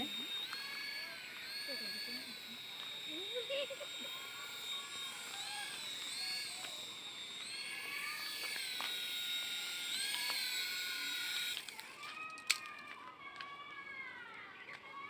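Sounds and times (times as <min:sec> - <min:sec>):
toy helicopter rotor motors whining: 0:00.0 - 0:15.0.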